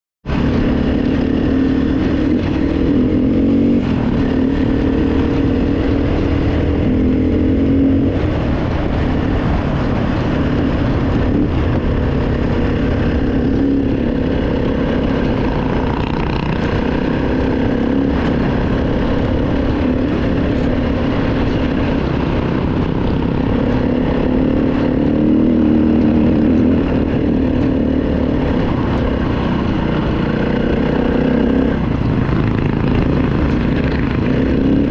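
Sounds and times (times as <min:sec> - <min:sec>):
wind buffeting microphone: 0:00.2 - 0:34.9
dirt bike engine revving: 0:00.3 - 0:34.9.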